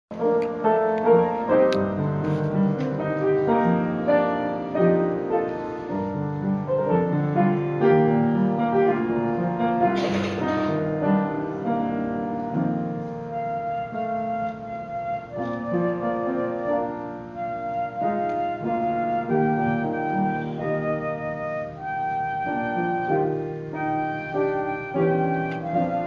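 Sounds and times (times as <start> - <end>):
slow piano piece: 0.1 - 26.0.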